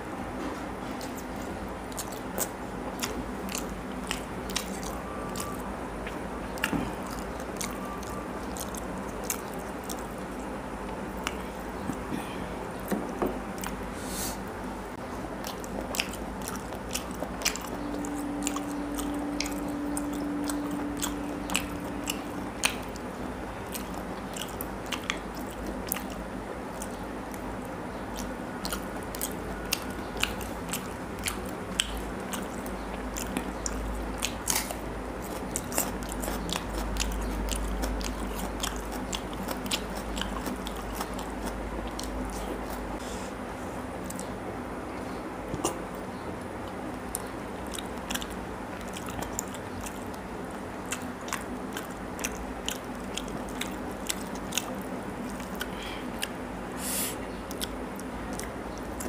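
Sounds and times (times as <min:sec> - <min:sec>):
steady low hum: 0:00.0 - 0:59.0
chewing and biting food: 0:00.4 - 0:13.9, 0:15.0 - 0:43.0, 0:43.7 - 0:44.4, 0:45.0 - 0:59.0.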